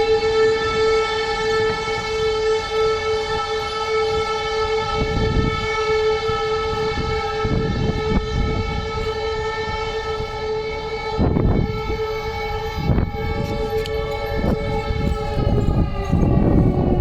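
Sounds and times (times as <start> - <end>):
alarm siren steady tone: 0.0 - 17.0
low rumbling noise: 0.0 - 17.0.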